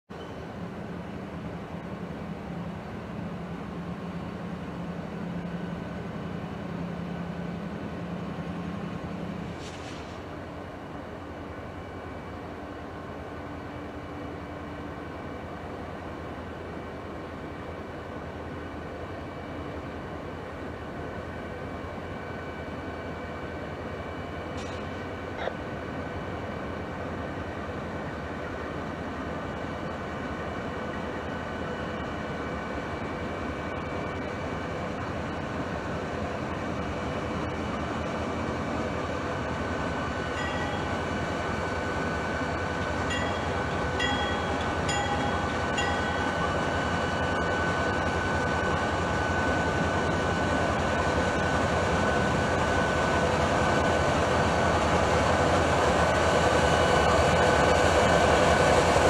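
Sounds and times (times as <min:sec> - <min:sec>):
train rumbling: 0:00.1 - 0:59.0.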